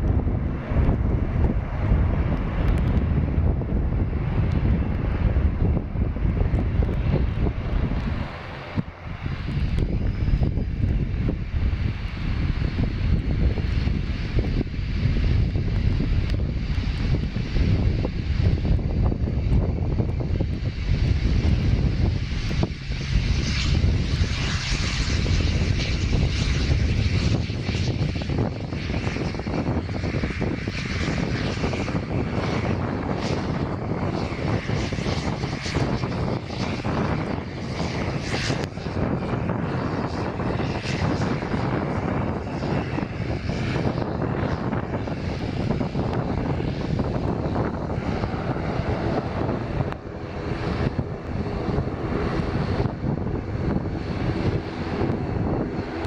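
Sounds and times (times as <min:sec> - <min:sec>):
propeller aircraft engines running: 0:00.0 - 0:56.0.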